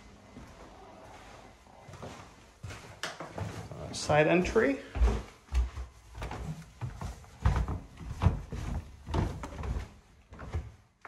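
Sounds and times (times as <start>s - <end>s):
footsteps going down stairs: 0.0s - 11.0s.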